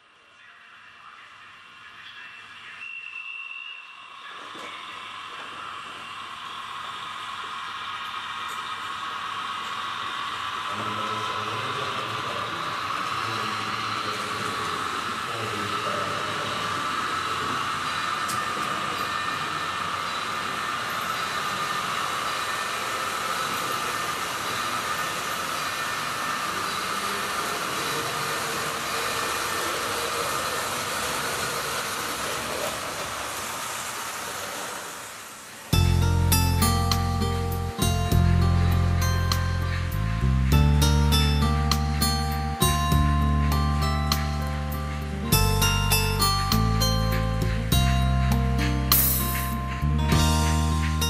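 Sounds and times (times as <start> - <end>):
model trains whirring on track: 0.0 - 51.0.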